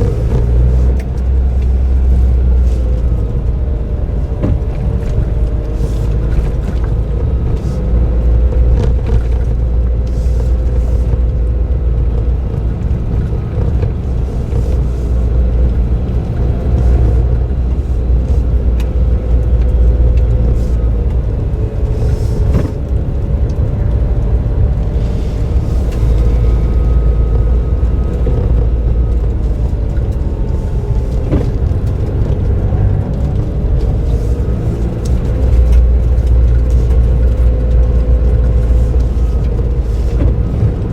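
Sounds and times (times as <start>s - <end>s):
engine and road noise: 0.0s - 40.9s.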